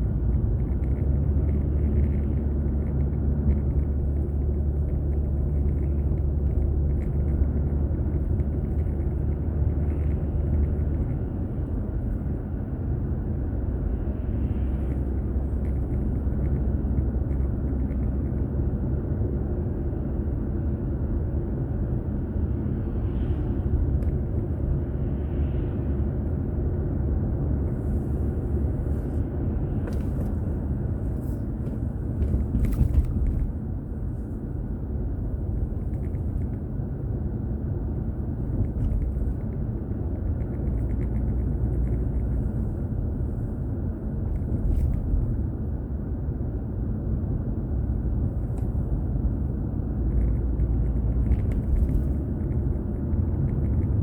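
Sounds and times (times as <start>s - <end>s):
road and engine noise in car: 0.0s - 54.0s.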